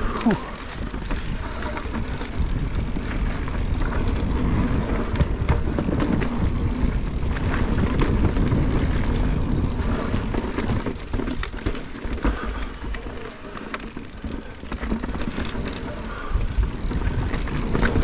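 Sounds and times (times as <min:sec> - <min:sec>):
bike clicks and rattles: 0:00.0 - 0:18.0
rushing noise of bike ride: 0:00.0 - 0:18.0.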